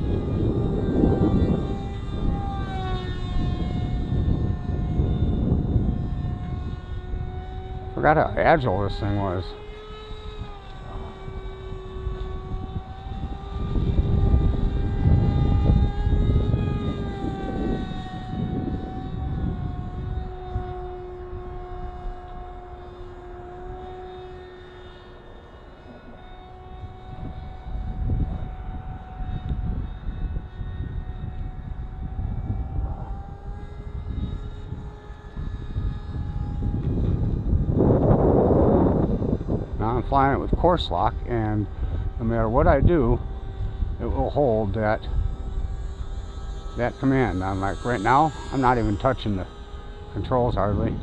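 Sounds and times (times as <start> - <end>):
model plane motor whining: 0.0 - 51.0
wind rumble on microphone: 0.0 - 51.0.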